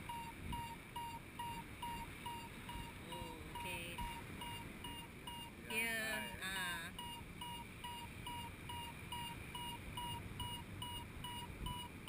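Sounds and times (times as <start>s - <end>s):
variometer beeping: 0.0s - 12.0s.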